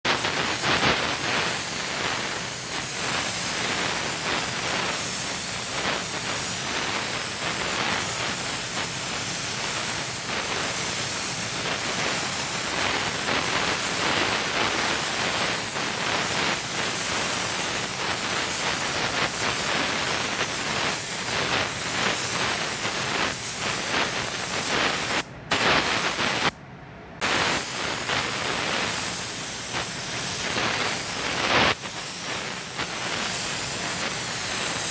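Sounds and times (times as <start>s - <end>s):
paint spray gun hissing: 0.1s - 26.6s, 27.2s - 34.9s.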